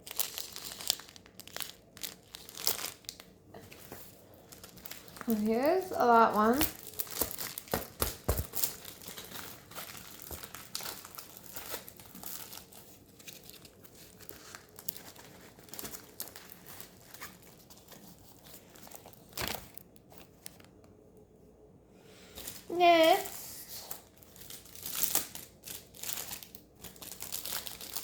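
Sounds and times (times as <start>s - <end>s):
packaging crinkling and rustling: 0.0s - 20.9s, 22.3s - 28.0s.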